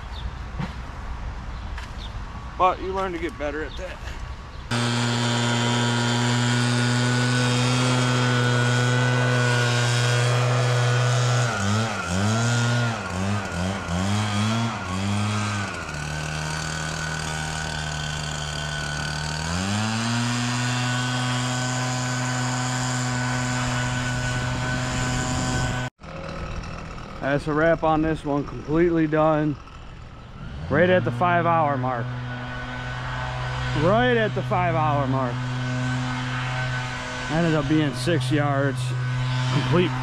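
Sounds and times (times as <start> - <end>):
leaf blower engine revving: 4.7 - 40.0.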